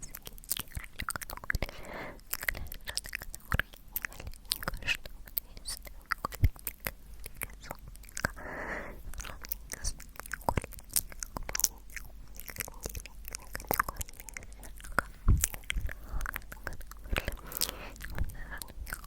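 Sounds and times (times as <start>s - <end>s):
wet mouth clicks and smacks: 0.1s - 19.0s.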